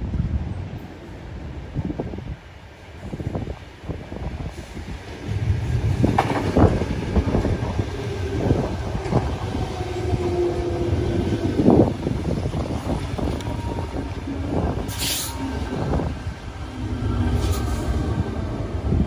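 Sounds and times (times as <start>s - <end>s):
steady train whine: 0.1s - 19.0s
train wheels rumbling and clacking: 2.9s - 19.0s.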